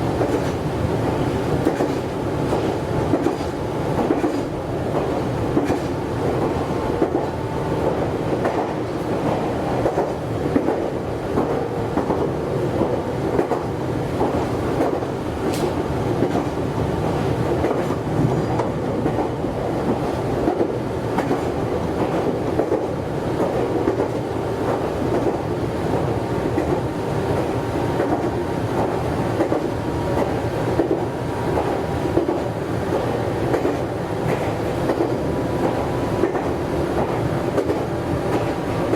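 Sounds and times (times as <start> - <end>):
clickety-clack over rail joints: 0.0 - 38.9
train wheels rumbling on rails: 0.0 - 38.9.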